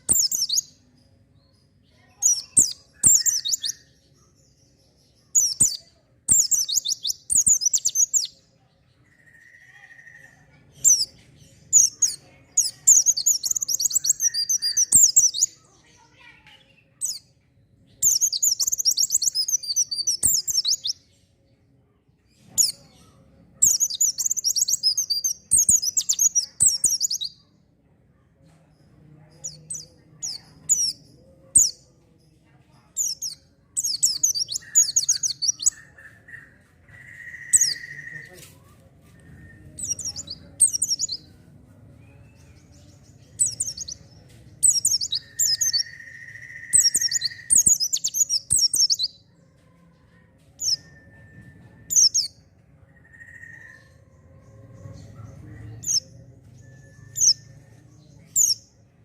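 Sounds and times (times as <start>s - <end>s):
bird twittering song: 0.0s - 49.4s, 50.2s - 59.0s.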